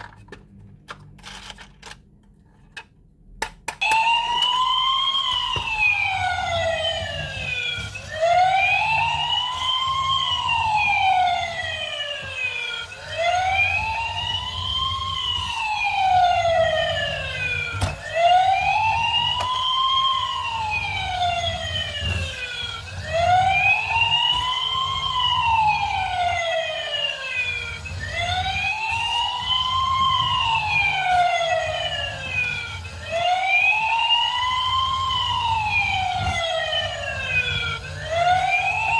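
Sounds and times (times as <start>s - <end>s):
toy police siren wailing: 3.8s - 38.9s.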